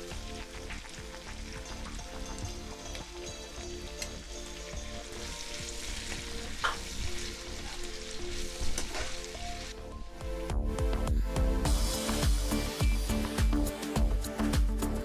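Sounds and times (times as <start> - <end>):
vegetables sizzling in hot oil: 0.0 - 10.6, 11.7 - 14.1.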